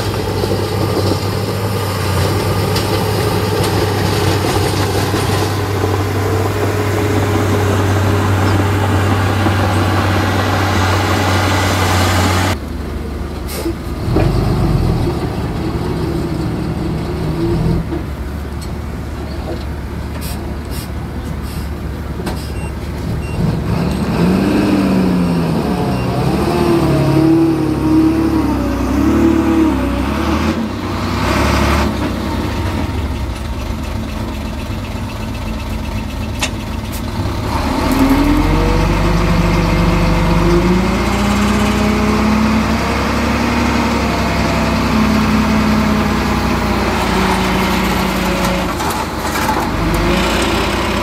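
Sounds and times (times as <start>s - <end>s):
diesel engine revving under load: 0.0s - 51.0s.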